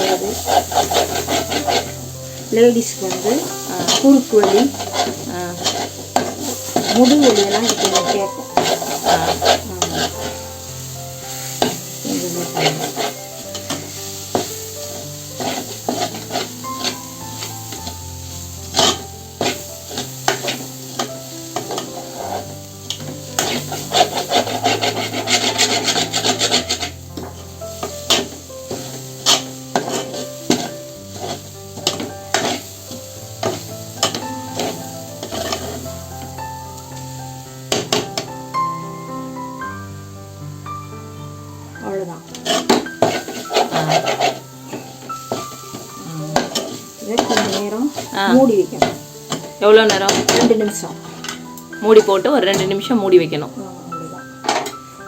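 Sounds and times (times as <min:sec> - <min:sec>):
ladle scraping a pan: 0:00.0 - 0:38.3, 0:42.2 - 0:53.5, 0:54.3 - 0:55.0.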